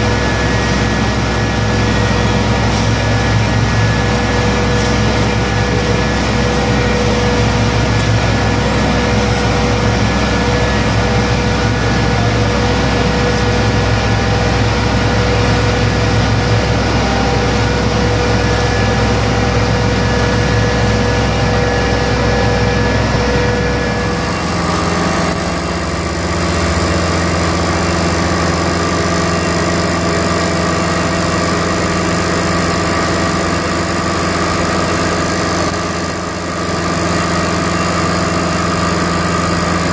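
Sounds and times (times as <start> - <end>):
topping spreader engine running: 0.0 - 39.9.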